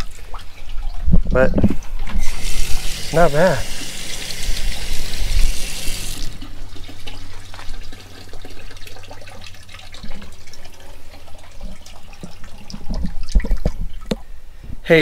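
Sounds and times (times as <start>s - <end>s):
water splashing into plastic sink: 0.0s - 14.2s.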